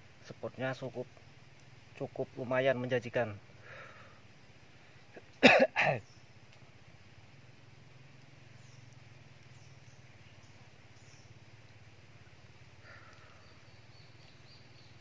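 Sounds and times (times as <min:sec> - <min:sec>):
low steady hum: 0:00.0 - 0:15.0
high bird or insect chirps: 0:00.2 - 0:06.5, 0:08.0 - 0:15.0.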